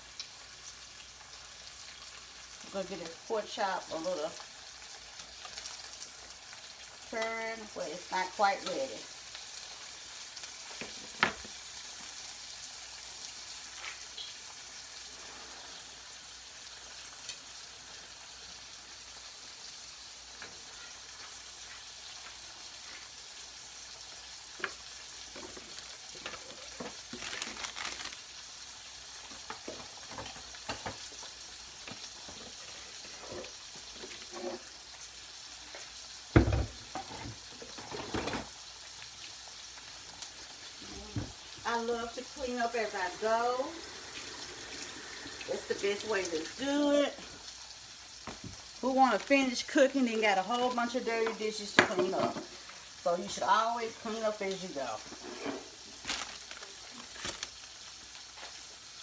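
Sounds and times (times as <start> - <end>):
meat sizzling in a frying pan: 0.0 - 59.0
vegetables sauteing: 0.0 - 59.0.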